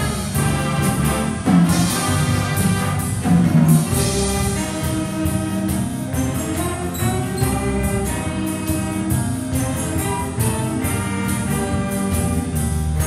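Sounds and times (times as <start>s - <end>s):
drum kit steady beat: 0.0s - 13.0s
jazz band playing: 0.0s - 13.0s.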